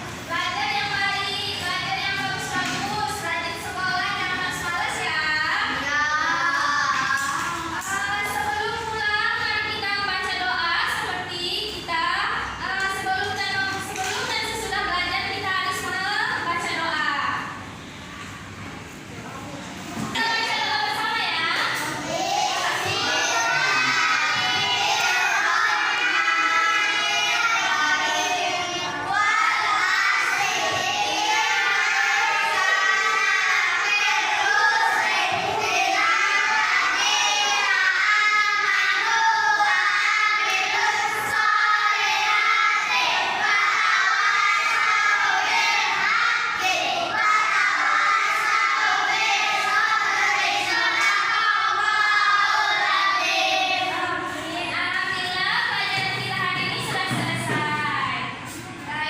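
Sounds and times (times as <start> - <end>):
children singing and shouting: 0.0 - 16.2, 20.1 - 59.0.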